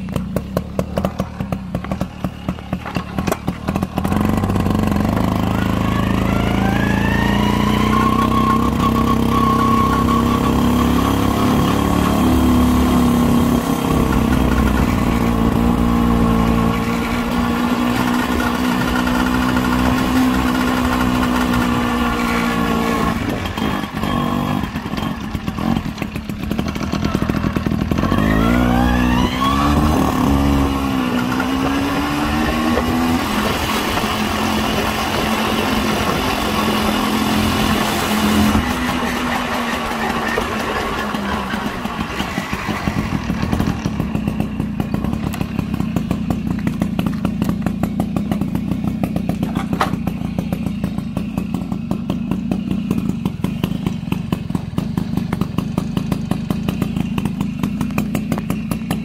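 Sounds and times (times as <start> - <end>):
moped two-stroke engine running: 0.0 - 59.0.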